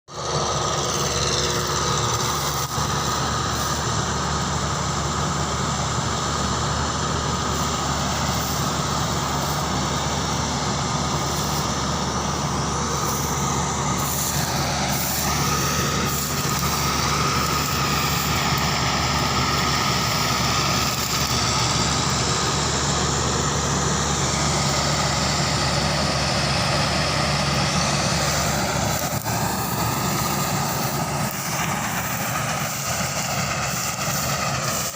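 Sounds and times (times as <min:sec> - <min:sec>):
combine harvester engine drone: 0:00.1 - 0:34.9
high machinery whine: 0:00.1 - 0:34.9.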